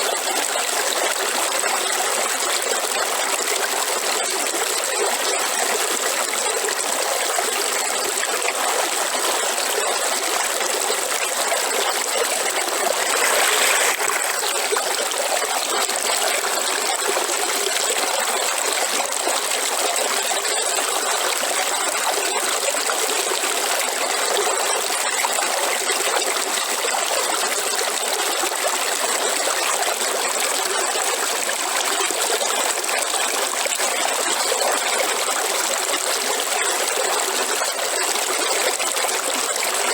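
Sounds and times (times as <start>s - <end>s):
river water running over rocks: 3.4s - 39.9s.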